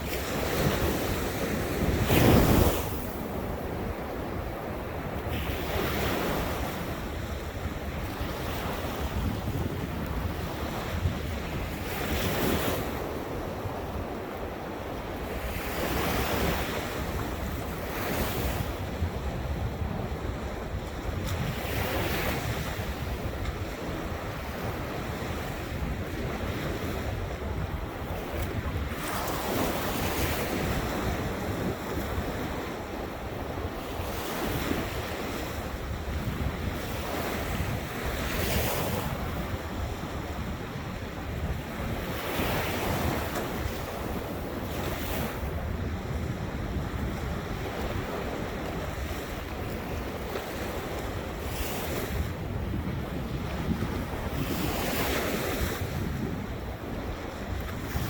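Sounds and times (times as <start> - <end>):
waves breaking on shore: 0.0 - 58.0
wind on microphone: 0.0 - 58.0.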